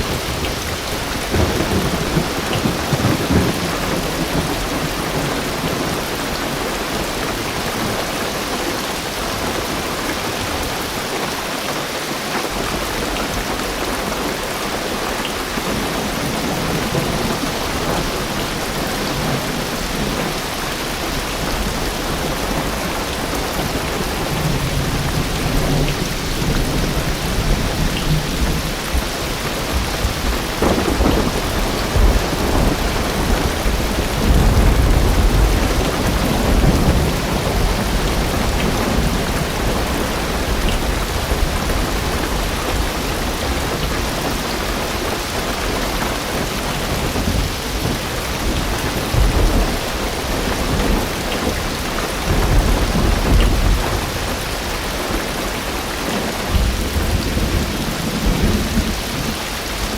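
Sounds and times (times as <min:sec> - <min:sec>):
deep rolling thunder: 0:00.0 - 0:08.0, 0:15.4 - 0:59.4
heavy rain on car roof: 0:00.0 - 0:59.9.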